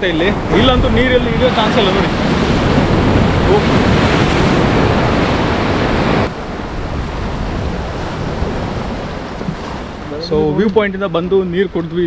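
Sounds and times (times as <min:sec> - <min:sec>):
sea surf breaking over rocks: 0:00.0 - 0:12.0
wind buffeting microphone: 0:00.0 - 0:12.0.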